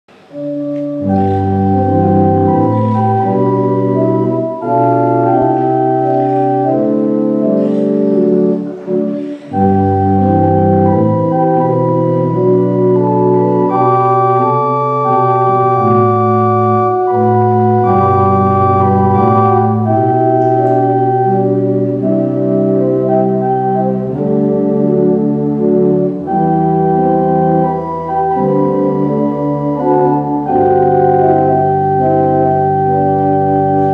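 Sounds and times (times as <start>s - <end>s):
low organ pedal notes: 0.1s - 33.9s
church organ sustained chords: 0.2s - 33.9s.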